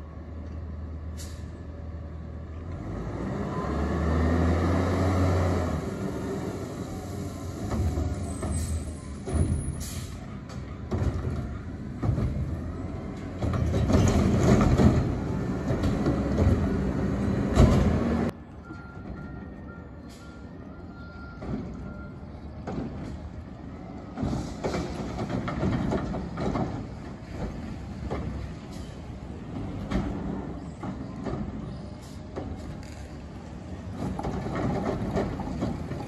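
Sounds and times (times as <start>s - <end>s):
garbage truck engine: 0.0s - 36.0s.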